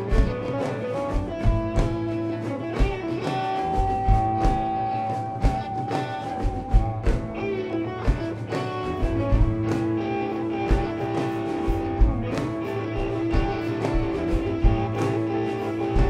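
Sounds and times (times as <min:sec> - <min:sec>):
drum kit: 0:00.0 - 0:16.0
electric guitars: 0:00.0 - 0:16.0.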